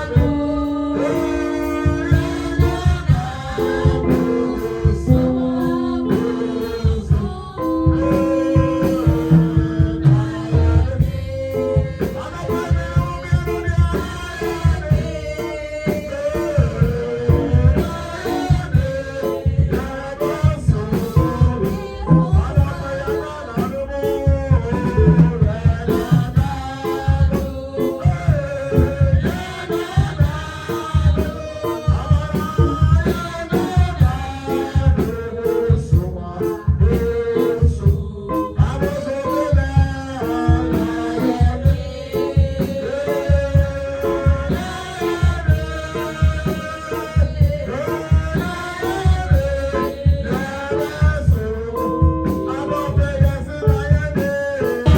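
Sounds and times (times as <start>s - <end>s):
drums: 0.0s - 54.9s
guitar: 0.0s - 54.9s
person singing: 0.0s - 54.9s.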